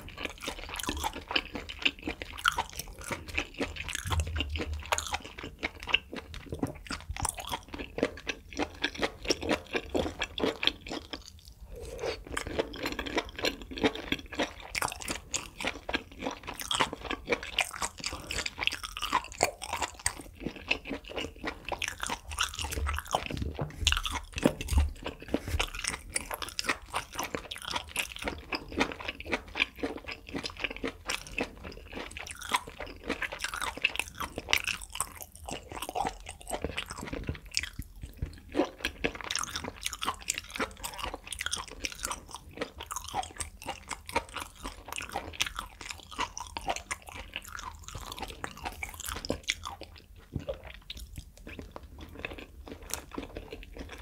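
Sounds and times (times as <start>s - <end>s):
wet chewing clicks and crackles: 0.0s - 54.0s.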